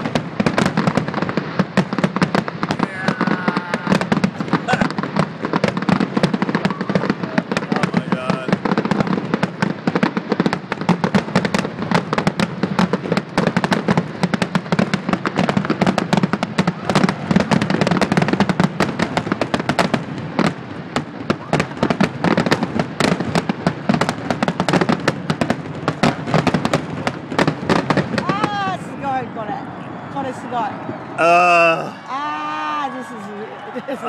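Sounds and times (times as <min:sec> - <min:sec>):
fireworks barrage with crackle: 0:00.0 - 0:34.0.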